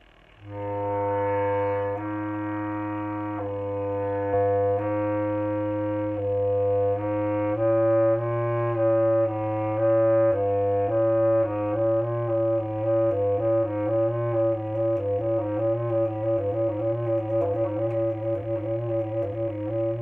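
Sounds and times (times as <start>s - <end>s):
clarinet melody: 0.0s - 20.0s.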